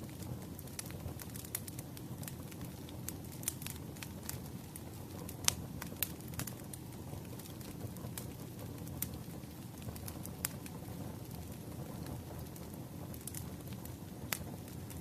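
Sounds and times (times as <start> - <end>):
firewood crackles and pops: 0.0 - 15.0
low rumble of flames: 0.0 - 15.0.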